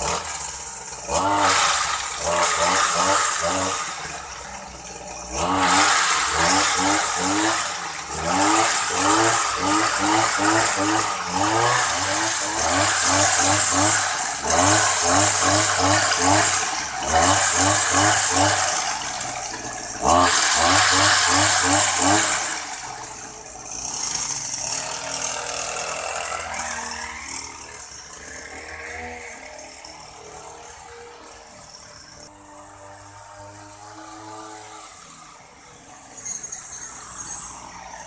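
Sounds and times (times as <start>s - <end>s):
small engine running: 0.0s - 38.0s.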